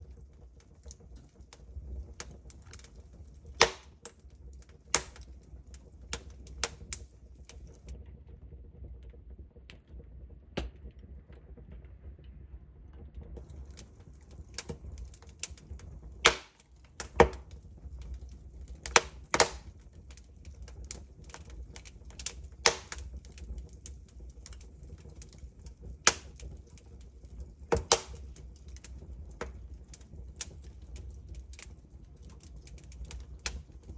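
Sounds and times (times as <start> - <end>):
low steady rumble: 0.0 - 33.9
wood fire crackling and popping: 0.0 - 33.9.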